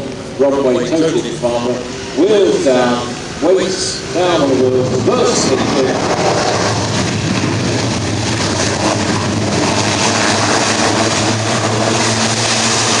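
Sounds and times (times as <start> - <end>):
propeller and engine roar: 0.0 - 13.0.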